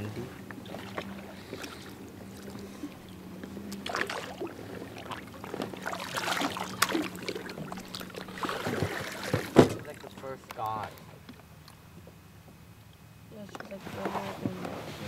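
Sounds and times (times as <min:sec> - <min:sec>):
faint steady hum: 0:00.0 - 0:15.0
water splashing against dinghy: 0:00.0 - 0:15.0.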